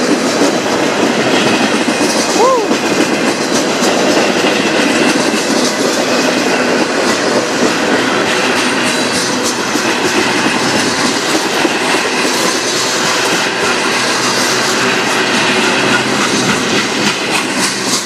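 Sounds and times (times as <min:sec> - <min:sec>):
steel wheels on rails: 0:00.0 - 0:18.0
wheels clacking over rail joints: 0:00.0 - 0:18.0.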